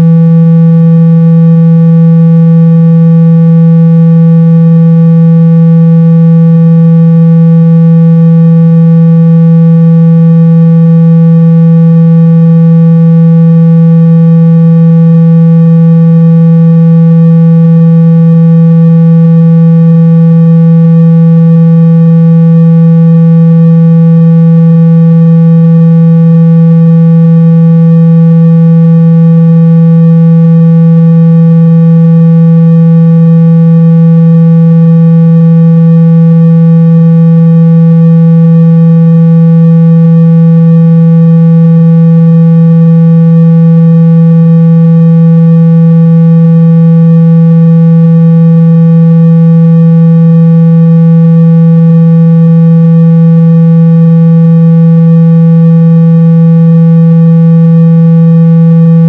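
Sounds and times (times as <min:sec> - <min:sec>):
low electronic tone: 0:00.0 - 0:48.0.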